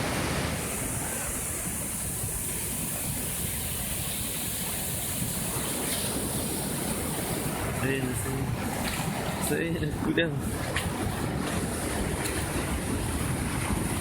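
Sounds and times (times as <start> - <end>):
sea and wind rushing: 0.0 - 14.0.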